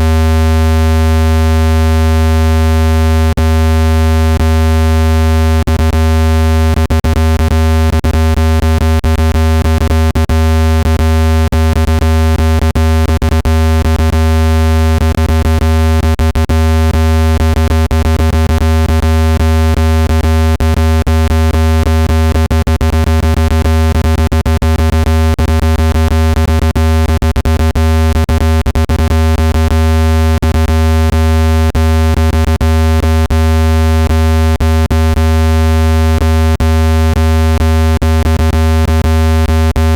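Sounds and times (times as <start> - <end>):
loud steady low synthesized tone: 0.0 - 39.9.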